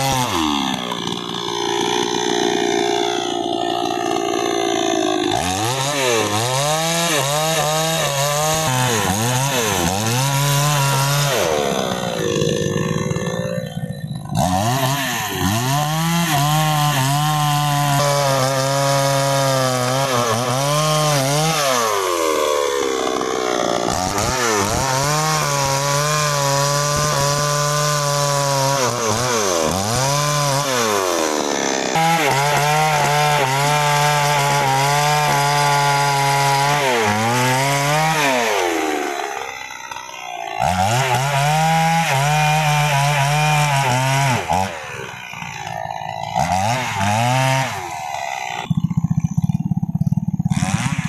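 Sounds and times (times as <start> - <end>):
chainsaw cutting a log: 0.0 - 51.0.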